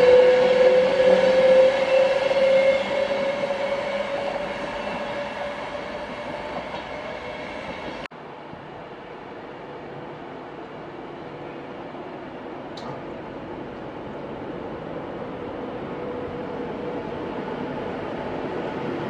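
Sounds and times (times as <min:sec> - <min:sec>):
electric train whine: 0:00.0 - 0:19.0
rail noise: 0:00.0 - 0:19.0.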